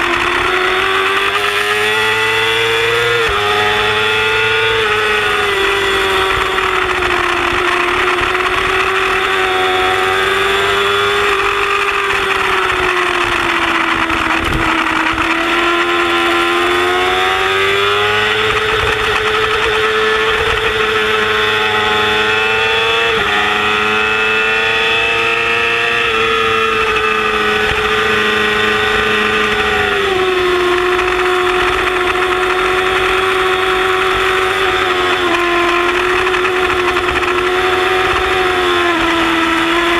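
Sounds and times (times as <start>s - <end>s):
motorcycle engine at high revs: 0.0s - 39.9s
wind noise: 0.0s - 39.9s.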